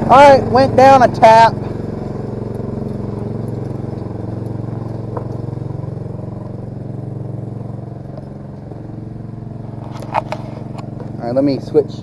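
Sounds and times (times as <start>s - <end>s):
welder engine running: 0.0s - 12.0s.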